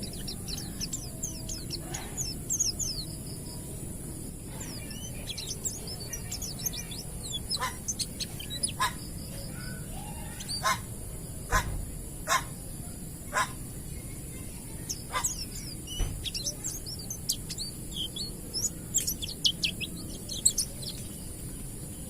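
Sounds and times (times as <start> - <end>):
bird twittering: 0.0 - 3.7, 4.5 - 10.9, 13.3 - 21.4.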